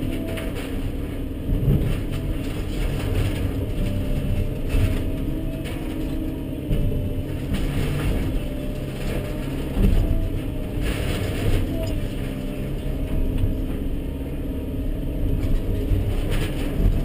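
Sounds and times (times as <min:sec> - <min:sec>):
sharp cracks and knocks: 0:00.0 - 0:13.9, 0:15.2 - 0:17.0
bucket crunching timbers: 0:00.0 - 0:14.1
excavator engine and hydraulics: 0:00.0 - 0:17.0.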